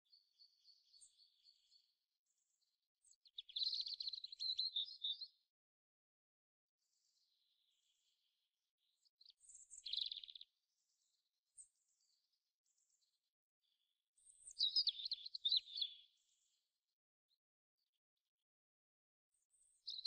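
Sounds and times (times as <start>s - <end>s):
small birds chirping: 0.0s - 5.5s, 6.8s - 17.9s, 19.3s - 20.0s.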